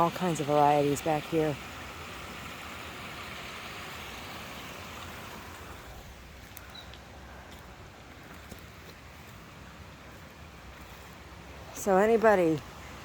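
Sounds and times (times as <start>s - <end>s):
running stream water rushing: 0.0s - 13.0s.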